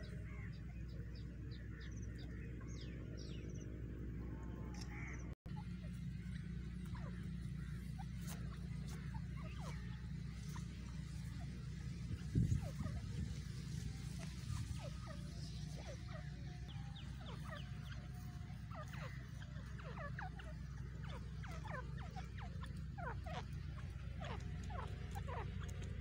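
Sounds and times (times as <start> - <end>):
birds chirping: 0.0 - 26.0
steady low hum: 0.0 - 26.0.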